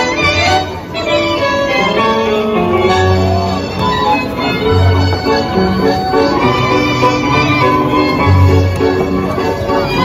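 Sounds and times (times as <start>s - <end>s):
bandoneon: 0.0s - 10.0s
tango orchestra music: 0.0s - 10.0s
violins playing: 0.0s - 10.0s.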